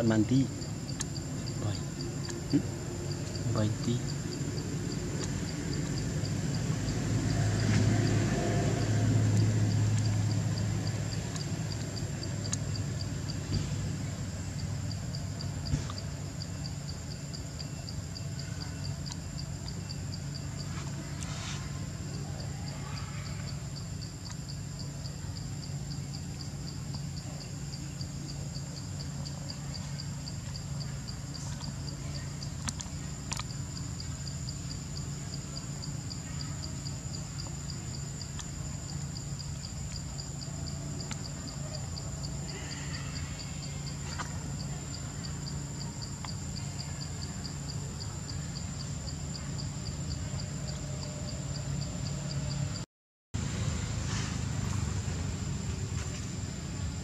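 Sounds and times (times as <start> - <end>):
insect high whine: 0.0 - 52.9
insects pulsing trill: 0.0 - 52.9.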